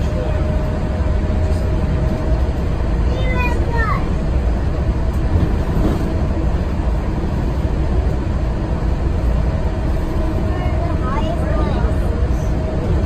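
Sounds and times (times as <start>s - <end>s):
monorail train running: 0.0s - 13.0s.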